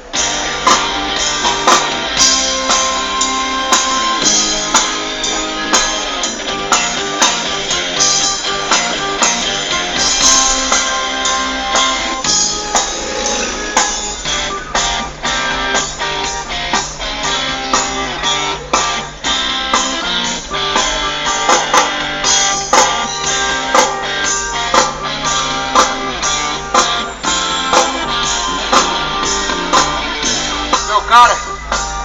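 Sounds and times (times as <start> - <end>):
drum kit beat: 0.0 - 32.0
guitar: 0.0 - 32.0
rock music: 0.0 - 32.0.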